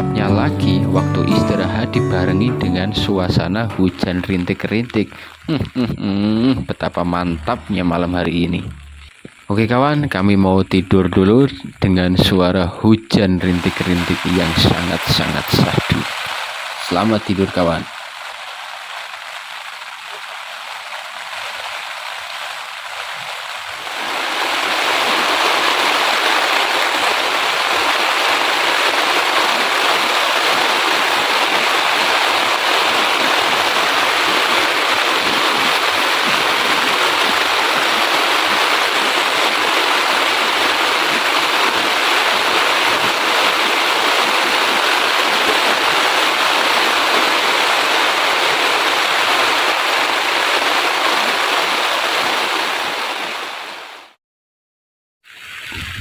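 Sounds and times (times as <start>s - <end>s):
steady rain falling: 0.8s - 11.4s, 13.4s - 54.2s.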